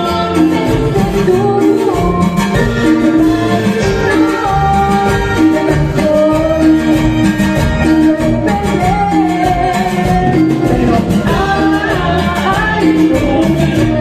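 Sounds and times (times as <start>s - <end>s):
drums: 0.0s - 14.0s
electric bass: 0.0s - 14.0s
electric guitar: 0.0s - 14.0s
keyboard: 0.0s - 14.0s
woman singing into a microphone: 0.0s - 14.0s.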